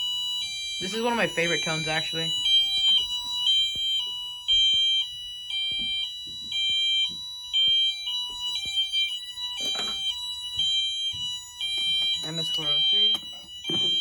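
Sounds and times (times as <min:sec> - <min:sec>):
high-low alarm horn: 0:00.0 - 0:03.8, 0:06.5 - 0:14.0.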